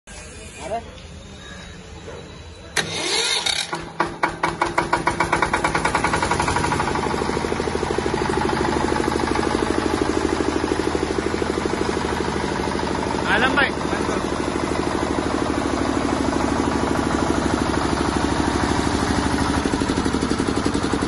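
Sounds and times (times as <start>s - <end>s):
diesel generator engine starting: 2.2s - 21.0s.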